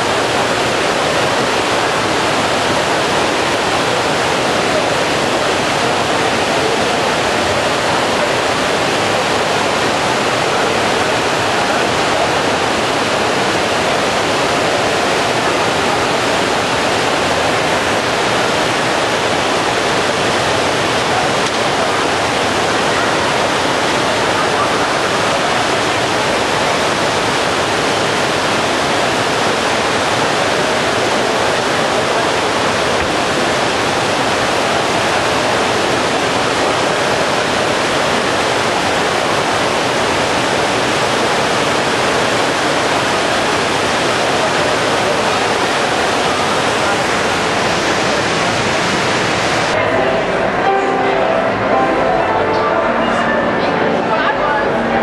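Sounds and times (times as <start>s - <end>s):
fountain water cascading: 0.0s - 55.0s.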